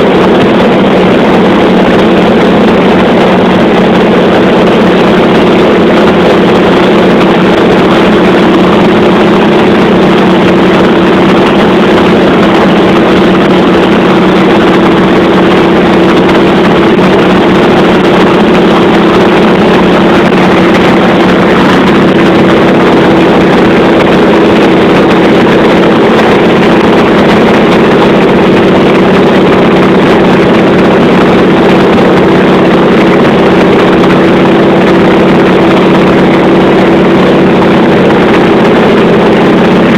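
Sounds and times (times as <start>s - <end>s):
aircraft engine droning: 0.0s - 39.9s.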